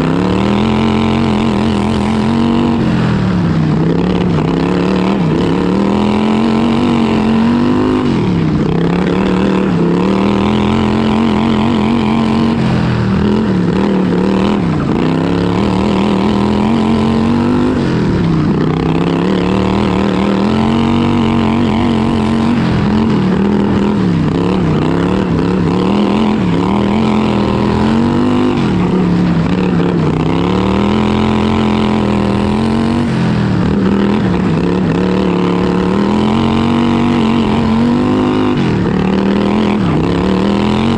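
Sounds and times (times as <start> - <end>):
lawn tractor engine revving: 0.0 - 40.9.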